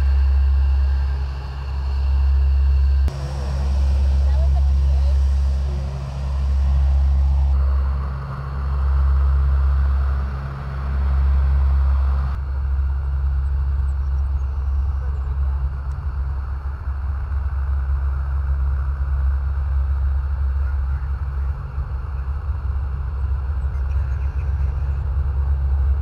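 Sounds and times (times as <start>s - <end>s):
military aircraft engines rumbling: 0.0s - 26.0s.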